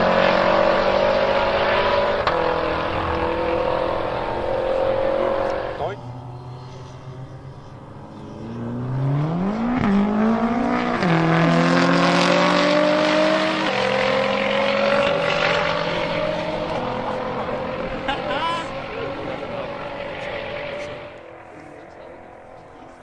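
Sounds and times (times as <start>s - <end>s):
car engines revving and accelerating: 0.0s - 23.0s.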